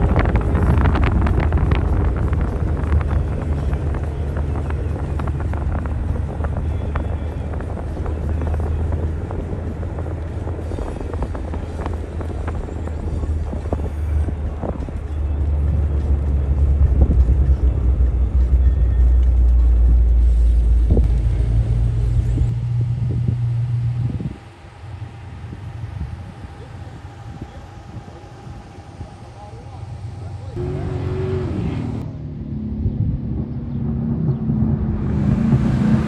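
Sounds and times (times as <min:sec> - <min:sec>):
car engine droning: 0:00.0 - 0:36.0.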